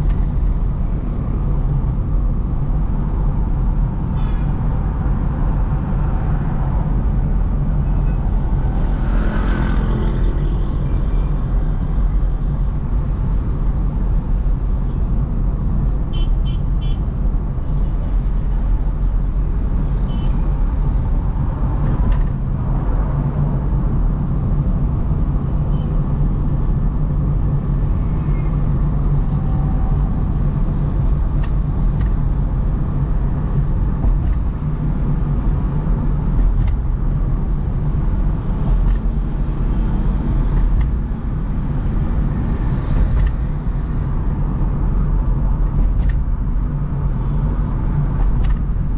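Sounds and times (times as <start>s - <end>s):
car driving with engine rumble: 0.0s - 48.9s
vehicles passing: 0.0s - 48.9s.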